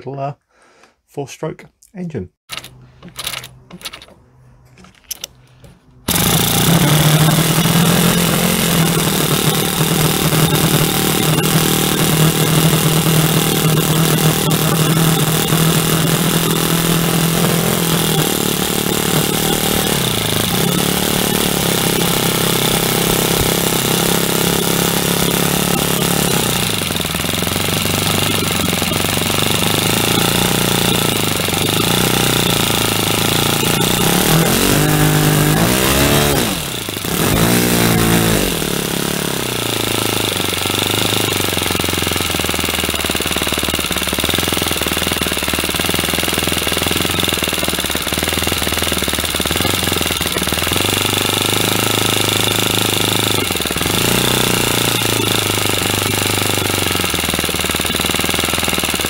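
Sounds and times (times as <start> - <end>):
model engine running: 2.5 - 4.1, 6.0 - 59.0.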